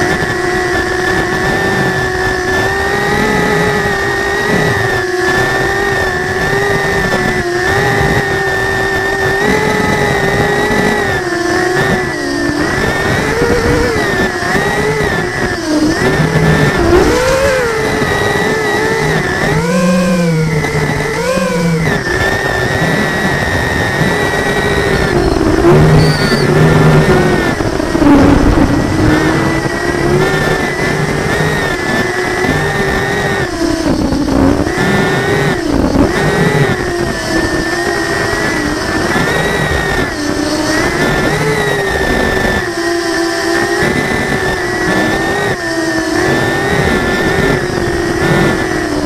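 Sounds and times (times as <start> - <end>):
drone propellers whining: 0.0 - 49.0.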